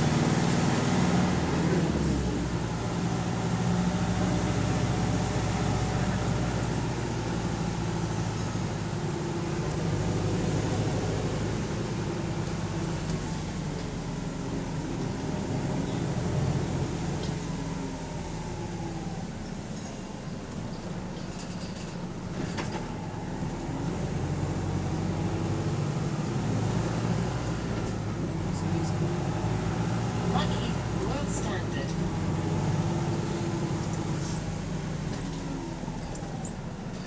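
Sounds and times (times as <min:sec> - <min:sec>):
bus diesel engine humming: 0:00.0 - 0:37.0.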